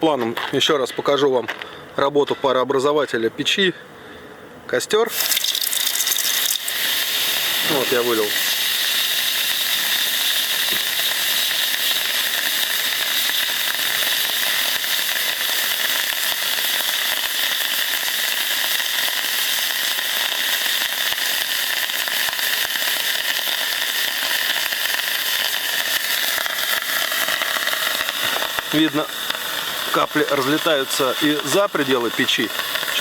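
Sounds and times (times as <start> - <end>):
water hissing into steam on a stove: 5.1 - 33.0.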